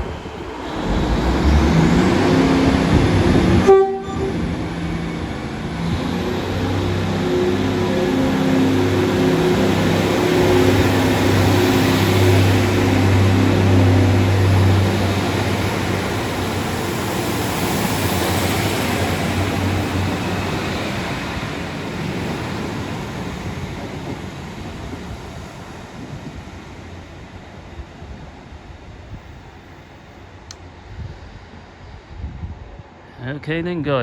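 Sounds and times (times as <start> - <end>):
diesel train engine rumble: 0.0 - 34.0.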